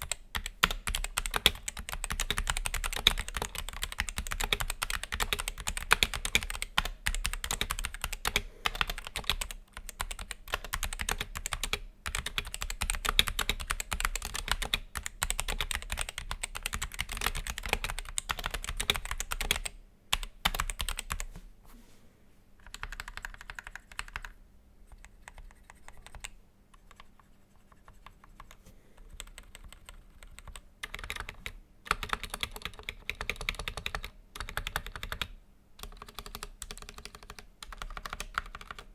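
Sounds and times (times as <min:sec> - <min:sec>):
mechanical keyboard typing: 0:00.0 - 0:21.3, 0:22.6 - 0:24.4, 0:25.0 - 0:38.9.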